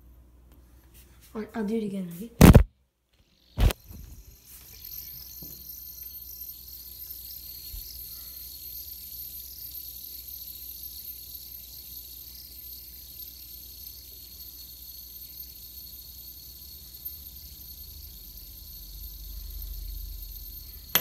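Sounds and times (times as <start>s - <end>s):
fidget spinner whirring: 2.4s - 21.0s.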